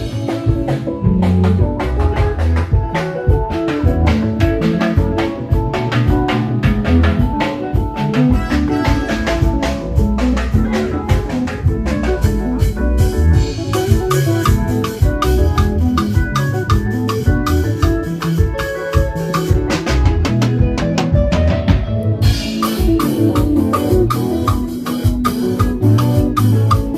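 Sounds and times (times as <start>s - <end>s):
shaken percussion: 0.0s - 21.6s, 22.2s - 26.9s
drum kit: 0.0s - 26.9s
heavy bass: 0.0s - 26.9s
keyboard notes: 0.0s - 26.9s
up-tempo band music: 0.0s - 26.9s.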